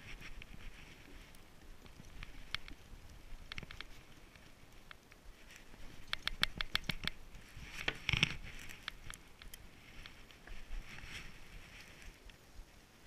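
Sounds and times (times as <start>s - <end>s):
fishing rod handling rustle: 0.0s - 13.0s.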